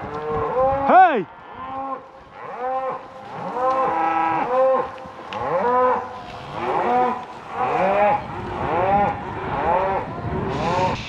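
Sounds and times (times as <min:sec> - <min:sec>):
cattle mooing: 0:00.0 - 0:11.0.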